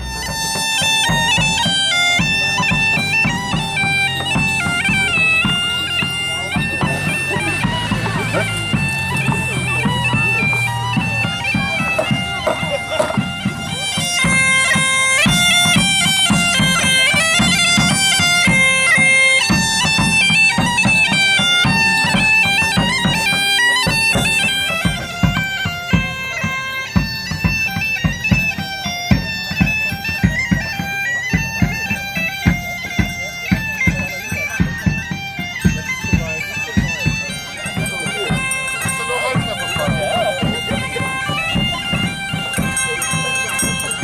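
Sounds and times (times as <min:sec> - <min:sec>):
bagpipe playing a lively melody: 0:00.0 - 0:44.0
drum beating time: 0:00.0 - 0:44.0.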